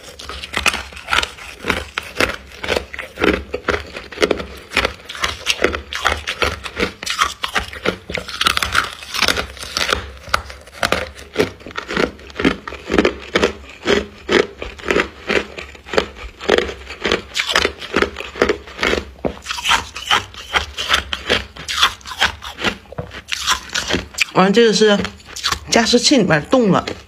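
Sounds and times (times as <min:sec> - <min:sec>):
crunching and chewing frost: 0:00.0 - 0:27.0.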